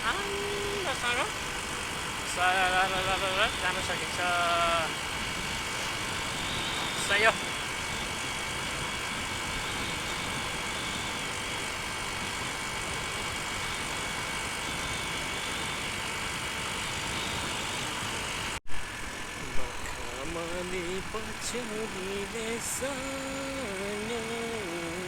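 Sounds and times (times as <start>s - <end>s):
wind and road noise: 0.0s - 22.8s
motorcycle engine running: 0.0s - 25.0s.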